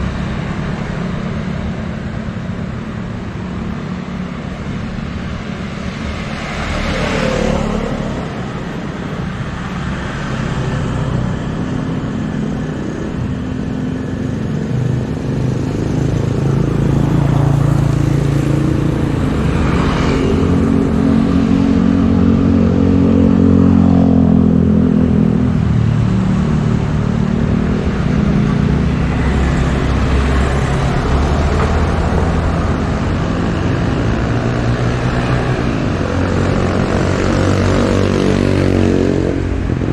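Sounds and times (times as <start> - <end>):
engine drone: 0.0 - 39.9
street noise: 0.0 - 39.9.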